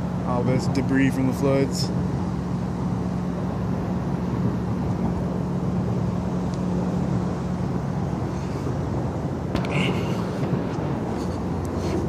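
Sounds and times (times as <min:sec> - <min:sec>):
constant drone: 0:00.0 - 0:12.0
low mechanical hum: 0:00.0 - 0:12.0.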